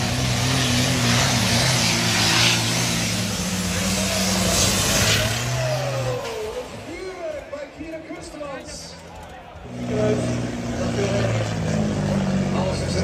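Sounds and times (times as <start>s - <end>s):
tractor engine at full power: 0.0s - 13.0s.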